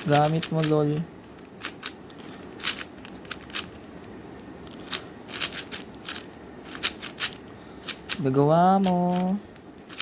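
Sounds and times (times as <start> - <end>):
speedcube plastic clicks: 0.0 - 3.9, 4.6 - 10.0.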